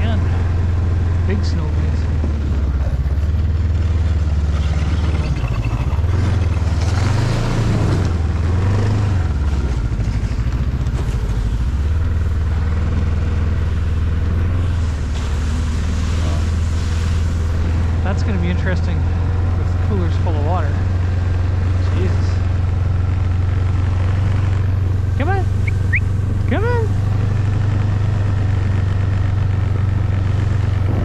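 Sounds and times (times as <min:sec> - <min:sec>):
motor engine running: 0:00.0 - 0:31.0.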